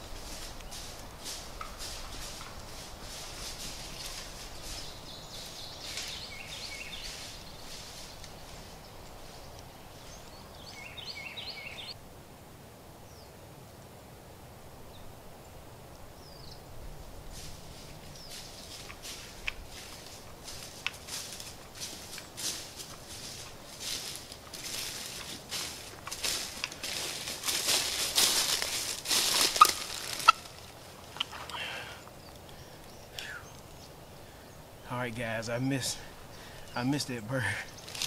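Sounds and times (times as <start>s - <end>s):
songbird chirping: 0.0s - 12.0s, 13.0s - 38.0s
rustling in dry leaves: 0.0s - 12.3s, 15.7s - 38.0s.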